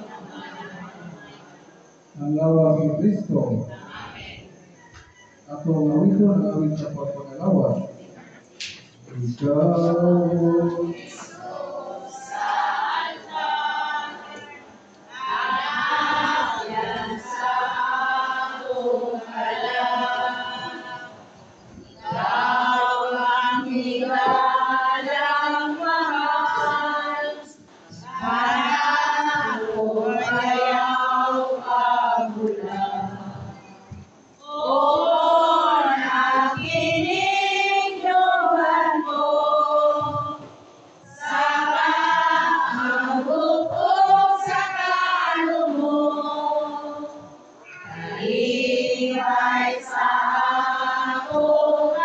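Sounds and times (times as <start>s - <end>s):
choir singing a slow hymn: 0.0s - 52.0s.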